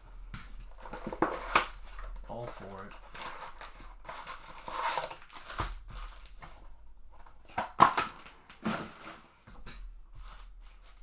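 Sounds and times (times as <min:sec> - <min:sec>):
cardboard boxes and foil rustling: 0:00.0 - 0:11.0
sharp knocks and crinkles: 0:00.1 - 0:11.0.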